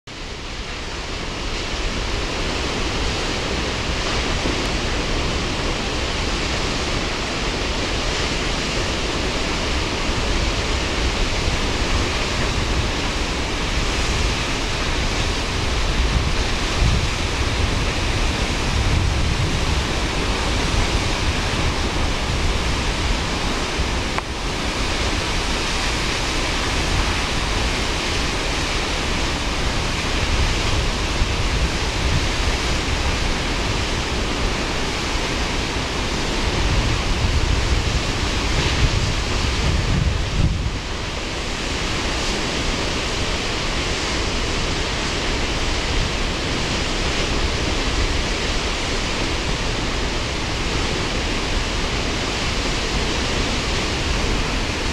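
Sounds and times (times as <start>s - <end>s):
waterfall rushing: 0.1s - 54.9s.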